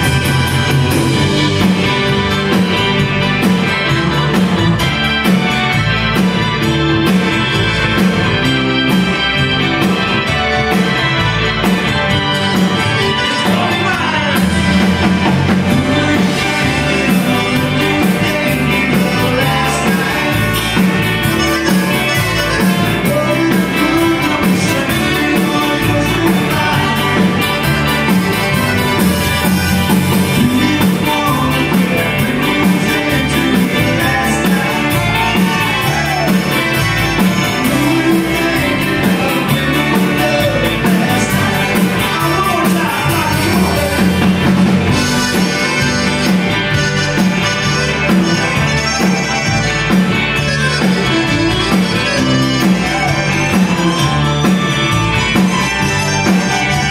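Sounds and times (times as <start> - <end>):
live rock band playing: 0.0 - 56.9.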